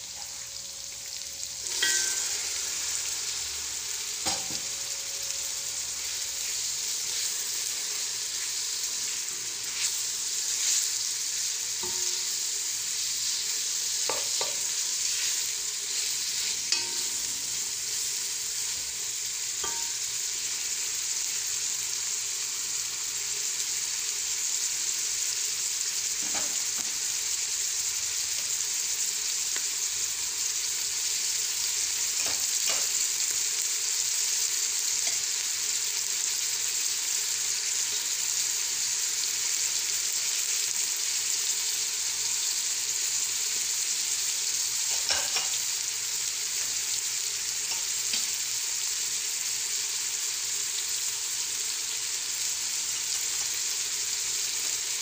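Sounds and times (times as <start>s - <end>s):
chicken sizzling in oil: 0.0s - 55.0s.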